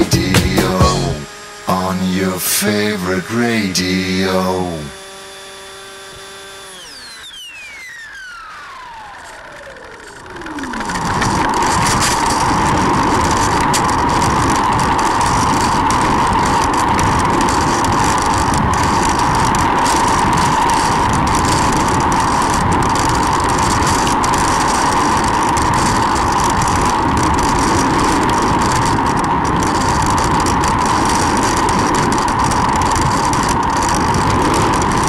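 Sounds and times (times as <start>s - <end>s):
model plane wind and motor: 4.9s - 35.0s.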